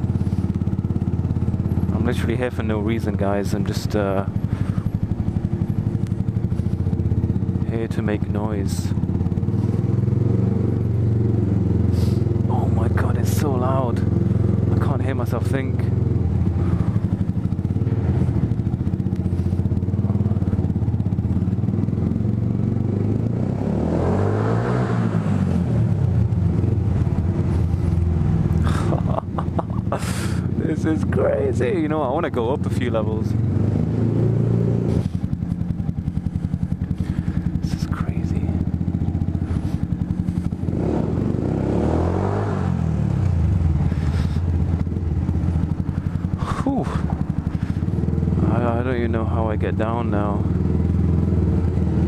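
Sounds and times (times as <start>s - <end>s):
motorcycle engine running at low revs: 0.0s - 52.0s.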